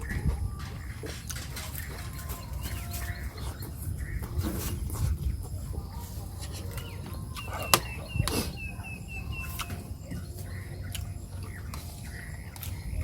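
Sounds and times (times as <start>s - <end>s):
bird chirping: 0.0s - 13.0s
steady low rumble: 0.0s - 13.0s.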